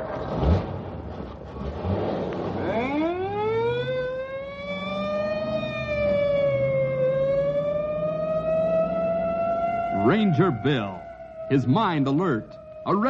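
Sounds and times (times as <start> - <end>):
police siren wailing: 2.5 - 13.0.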